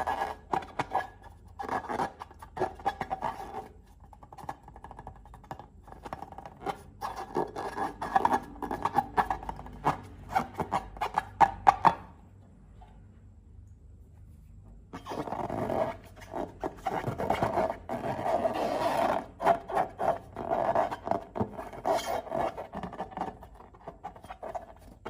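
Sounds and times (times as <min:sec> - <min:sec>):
rubbery squeaks: 0:00.0 - 0:05.3, 0:05.9 - 0:11.9, 0:14.9 - 0:25.0.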